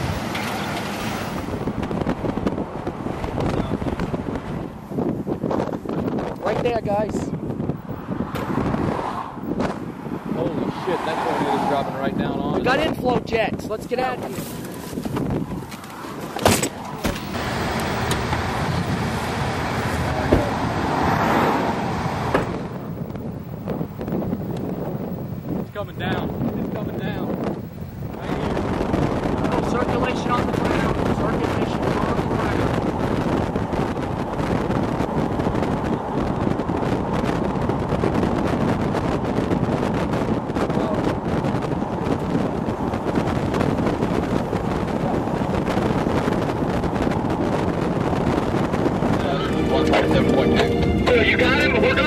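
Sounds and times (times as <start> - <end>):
car driving noise: 0.0 - 52.0
wind rushing: 0.0 - 52.0.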